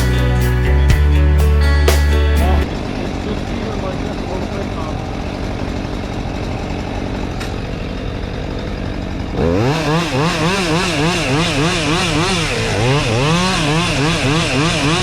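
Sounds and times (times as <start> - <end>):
engine running steadily: 0.0 - 15.0
chainsaw cutting: 2.5 - 15.0.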